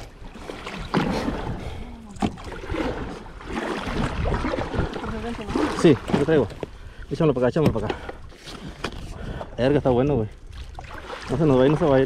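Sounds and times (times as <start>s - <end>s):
water splashing around a kayak: 0.0s - 12.0s.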